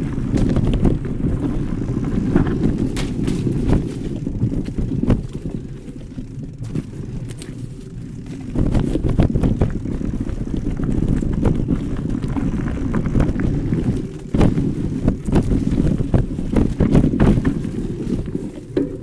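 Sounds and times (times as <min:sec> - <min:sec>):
bike knocks and rattles: 0:00.0 - 0:19.0
tyre rumble on dirt: 0:00.0 - 0:19.0
wind buffeting microphone: 0:00.0 - 0:19.0.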